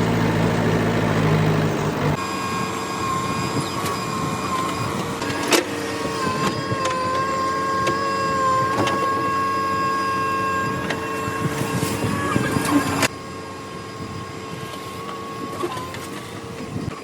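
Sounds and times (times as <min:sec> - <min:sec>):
machinery high-pitched whine: 0:00.0 - 0:17.0.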